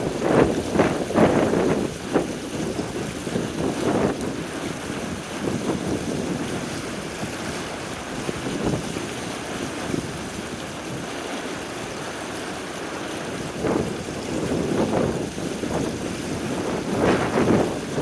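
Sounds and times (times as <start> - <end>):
gusty wind buffeting microphone: 0.0 - 11.1, 13.3 - 18.0.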